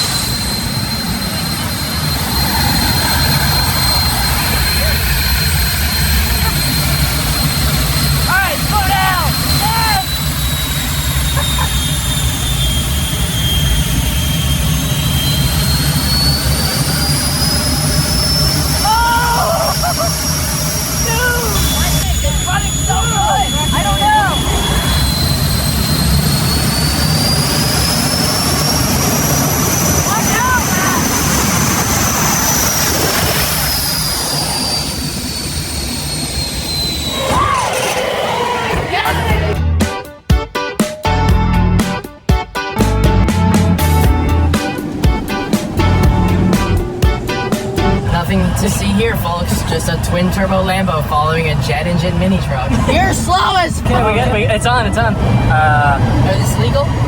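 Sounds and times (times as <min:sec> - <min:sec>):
jet engine rumble and turbine whine: 0:00.0 - 0:40.2, 0:41.0 - 0:57.0.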